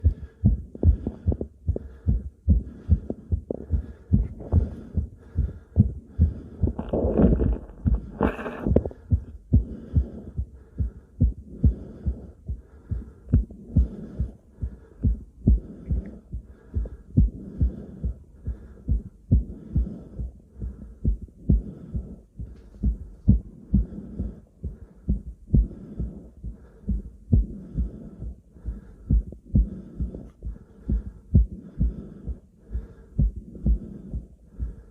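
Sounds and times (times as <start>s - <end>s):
breathing noise: 0.0s - 34.9s
heartbeat through stethoscope: 0.0s - 34.9s.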